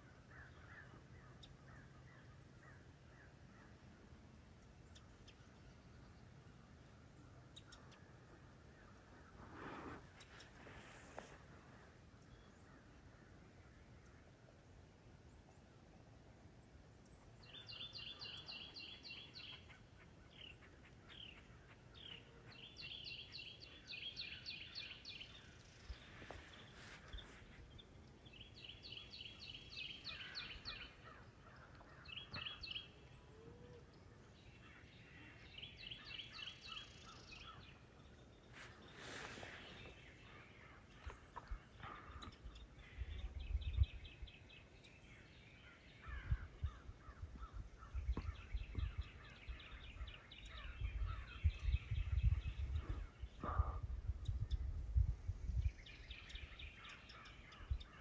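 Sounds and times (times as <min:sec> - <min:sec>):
faint bird calls: 0:00.0 - 0:14.3, 0:17.1 - 0:54.7.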